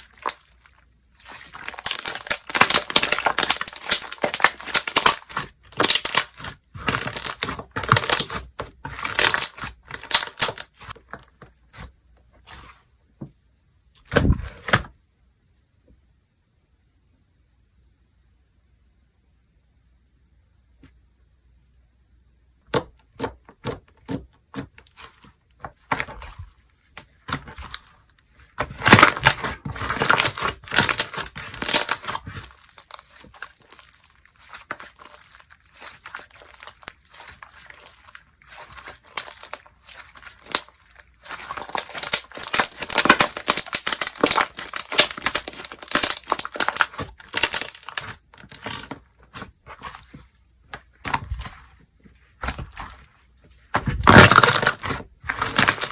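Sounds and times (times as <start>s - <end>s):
slime crackling: 0.0s - 12.7s, 23.7s - 55.9s.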